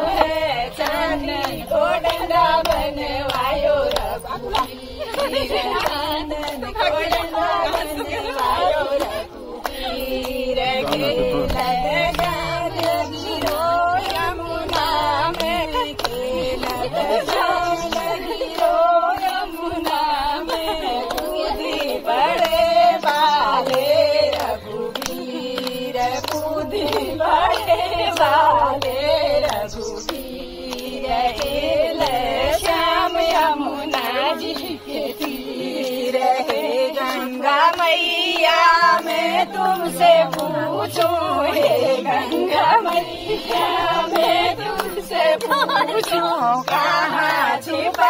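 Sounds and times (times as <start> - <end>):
women singing folk song: 0.0 - 48.0
steady held drone tone: 6.2 - 45.4.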